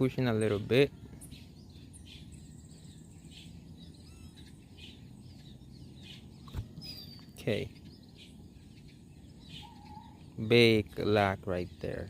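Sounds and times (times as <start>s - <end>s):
bird chirps: 0.0s - 12.0s
low steady rumble: 0.0s - 12.0s.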